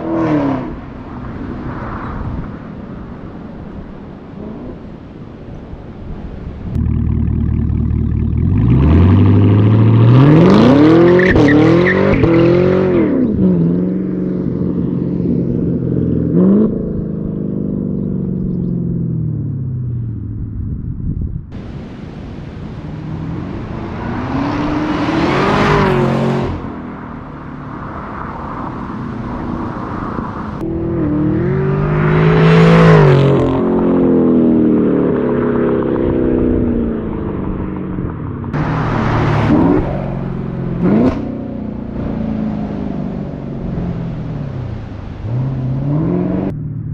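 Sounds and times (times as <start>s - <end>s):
car engine revving: 6.8s - 19.0s, 21.6s - 46.9s.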